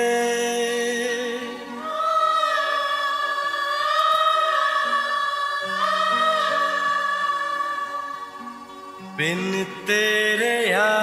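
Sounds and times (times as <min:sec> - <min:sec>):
person singing long notes: 0:00.0 - 0:11.0
soft musical accompaniment: 0:00.0 - 0:11.0.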